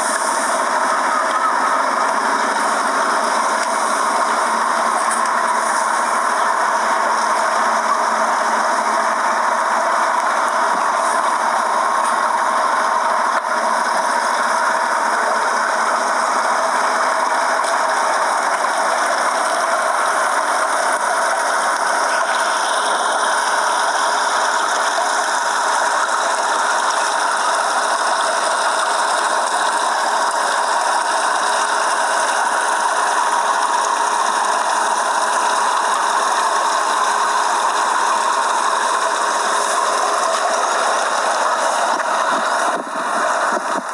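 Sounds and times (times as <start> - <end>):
distillation machinery running: 0.0 - 43.9.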